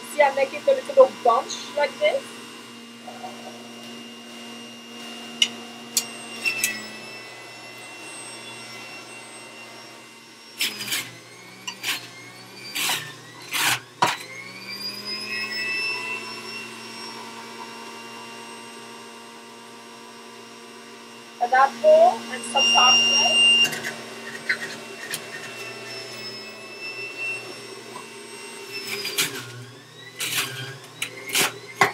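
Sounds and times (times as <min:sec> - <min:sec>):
juicer motor whine: 0:00.0 - 0:31.9.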